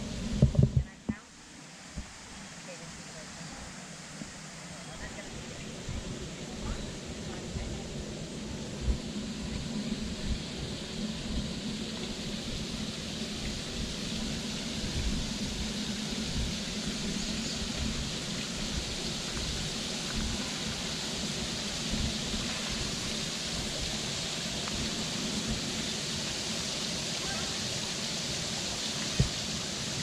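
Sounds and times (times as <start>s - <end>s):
falling water rushing: 0.0s - 30.0s.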